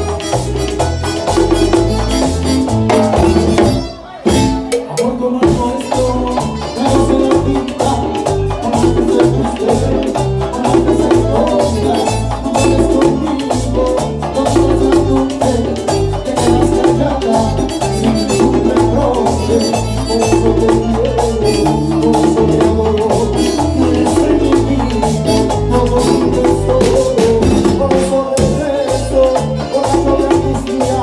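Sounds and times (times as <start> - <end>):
band playing dance music: 0.0 - 31.0
hand percussion: 0.0 - 31.0
rhythmic bass line: 0.0 - 31.0.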